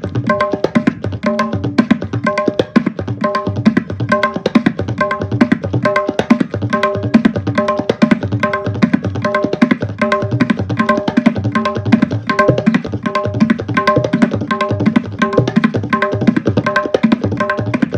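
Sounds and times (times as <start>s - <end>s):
fast tabla playing: 0.0s - 17.9s.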